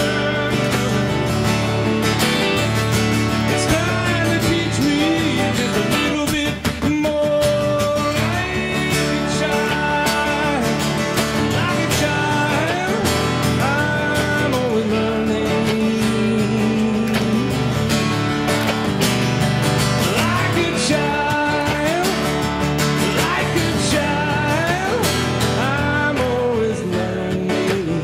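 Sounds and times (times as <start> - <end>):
person singing: 0.0 - 2.4, 3.4 - 18.1, 20.0 - 28.0
acoustic guitar strumming: 0.0 - 28.0.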